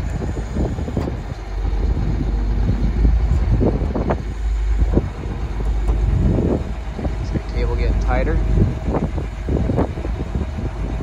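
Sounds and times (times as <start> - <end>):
truck engine running: 0.0 - 11.0
wind rumbling on microphone: 0.0 - 11.0.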